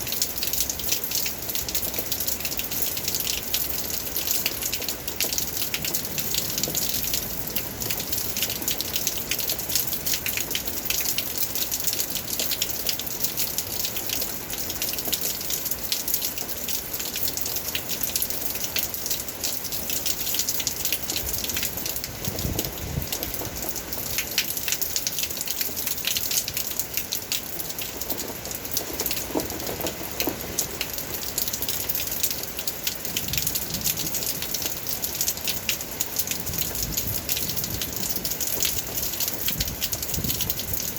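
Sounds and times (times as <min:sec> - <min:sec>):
rain patter: 0:00.0 - 0:40.9
water running and splashing: 0:00.0 - 0:40.9.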